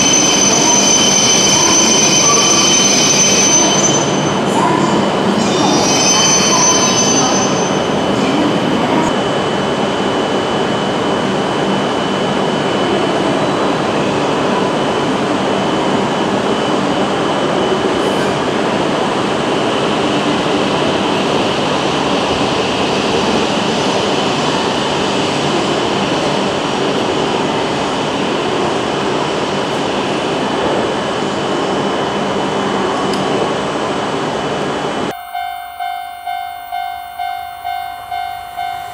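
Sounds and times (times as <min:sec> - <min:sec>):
train running at platform: 0:00.0 - 0:38.9.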